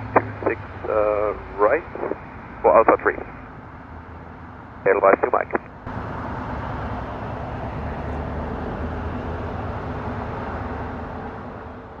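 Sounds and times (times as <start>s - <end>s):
jet engines at taxi power: 0.0s - 12.0s.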